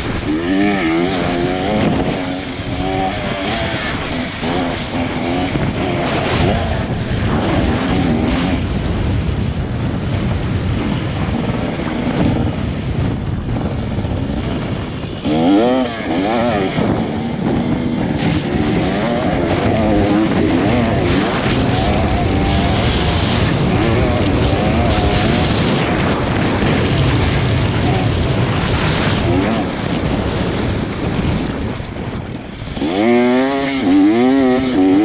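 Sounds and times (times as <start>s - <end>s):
dirt bike engine revving: 0.0s - 9.3s, 10.2s - 35.0s
wind noise: 0.0s - 35.0s.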